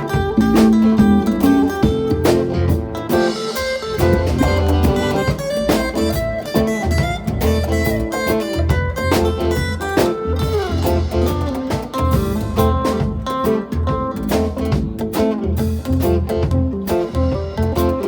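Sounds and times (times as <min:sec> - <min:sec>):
electric guitar: 0:00.0 - 0:18.0
live band playing: 0:00.0 - 0:18.0
pulsing bass line: 0:00.0 - 0:18.0.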